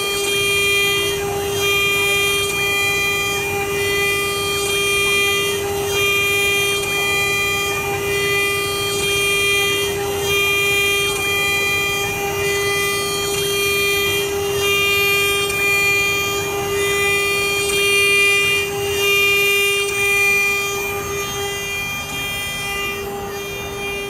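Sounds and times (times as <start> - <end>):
router spindle whining: 0.0 - 24.0.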